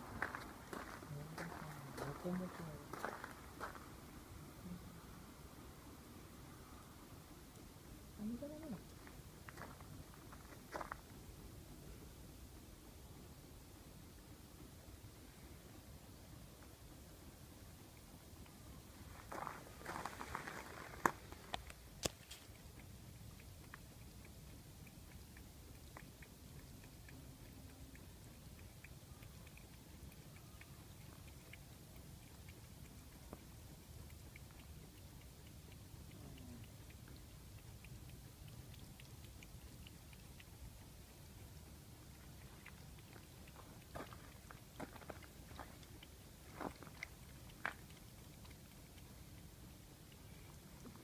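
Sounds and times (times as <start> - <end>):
low steady rumble: 0.0 - 51.0
cat lapping water: 0.1 - 51.0.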